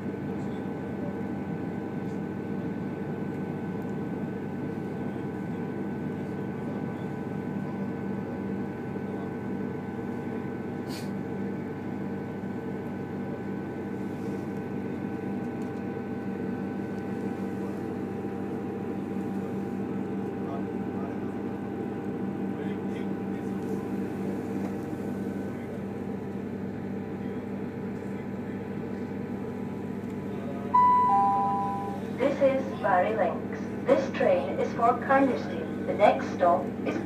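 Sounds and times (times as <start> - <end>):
train carriage hum: 0.0 - 37.0.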